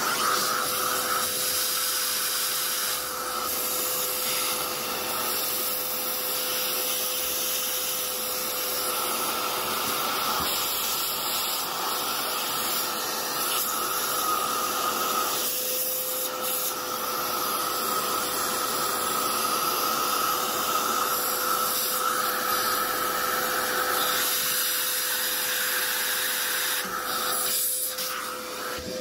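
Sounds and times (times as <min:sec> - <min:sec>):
vacuum cleaner sucking: 0:00.0 - 0:29.0.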